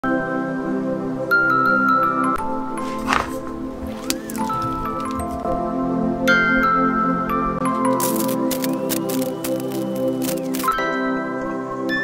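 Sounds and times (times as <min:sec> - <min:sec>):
background music sustained notes: 0:00.3 - 0:12.0.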